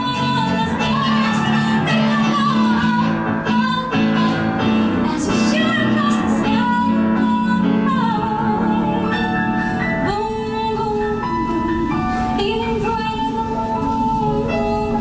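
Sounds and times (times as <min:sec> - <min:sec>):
piano: 0:00.0 - 0:15.0
woman singing into microphone: 0:00.0 - 0:15.0.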